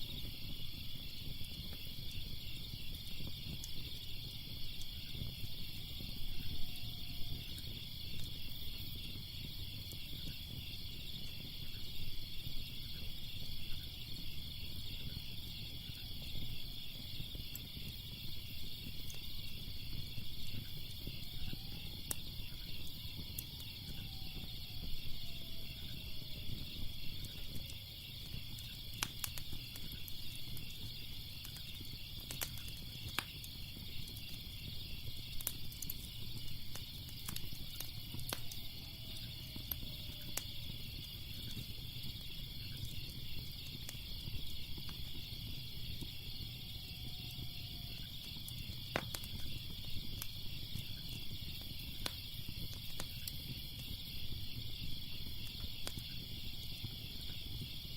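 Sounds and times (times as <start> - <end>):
crickets chirping: 0.0 - 57.9
fire crackling: 0.0 - 57.9.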